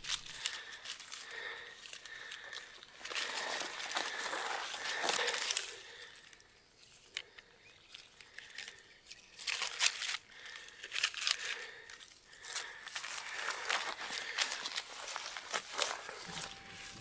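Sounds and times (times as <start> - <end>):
dry leaves rustling and crackling: 0.0 - 7.0, 7.9 - 17.0.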